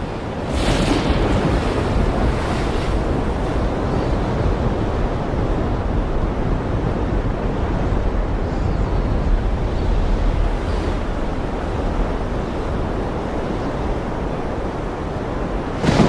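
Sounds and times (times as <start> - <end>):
waves washing onto shore: 0.0 - 16.0
wind rumble on microphone: 0.0 - 16.0.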